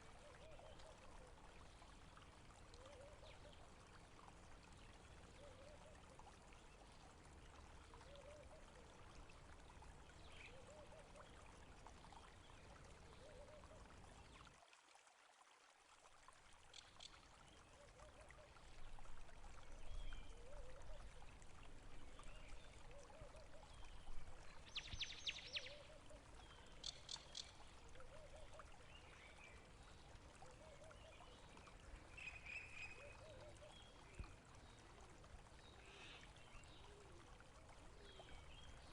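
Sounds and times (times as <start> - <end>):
water trickling and pouring: 0.0 - 38.9.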